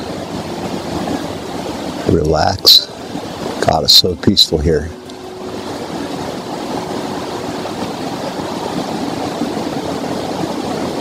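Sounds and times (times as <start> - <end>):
creek rushing: 0.0 - 11.0.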